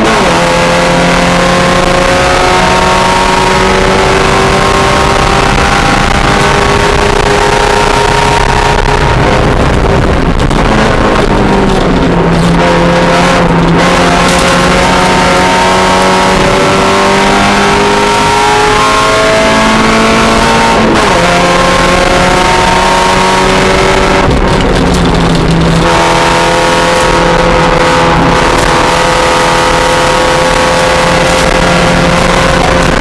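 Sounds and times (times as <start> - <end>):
race car engine running hard: 0.0 - 33.0.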